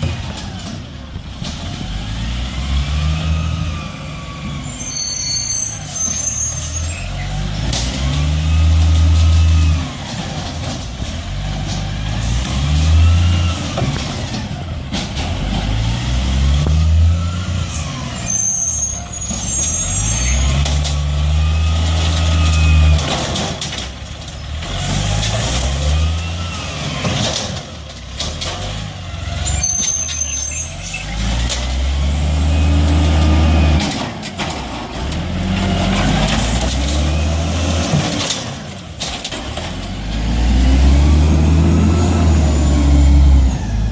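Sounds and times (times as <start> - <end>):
garbage truck engine revving: 0.0 - 5.0, 5.9 - 43.9.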